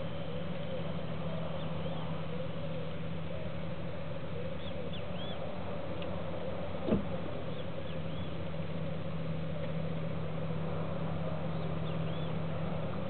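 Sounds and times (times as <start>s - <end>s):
outdoor background hum: 0.0s - 13.0s
small birds chirping: 0.0s - 13.0s.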